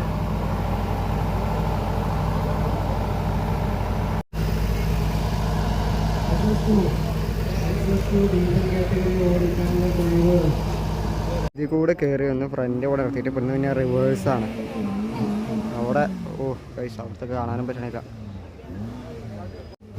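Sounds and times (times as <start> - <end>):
vehicle engine running: 0.0 - 11.5, 12.5 - 19.9.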